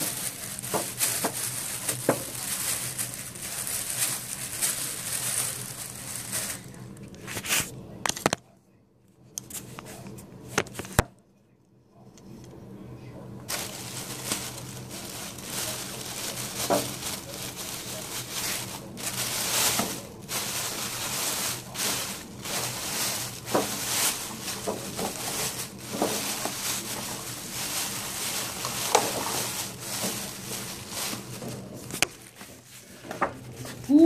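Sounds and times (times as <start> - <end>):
plastic bag rustling: 0.0 - 7.7, 13.5 - 34.0.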